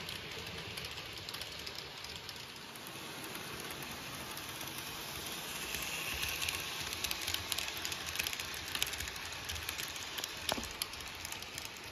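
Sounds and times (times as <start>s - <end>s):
model train rumbling on track: 0.0s - 11.9s
wheels clicking on rails: 0.0s - 11.9s.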